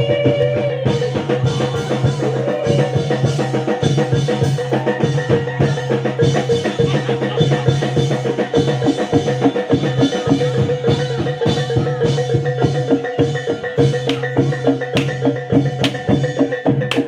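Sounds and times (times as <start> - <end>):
drums and hand percussion: 0.0 - 17.0
sharp percussion cracks: 0.9 - 17.0.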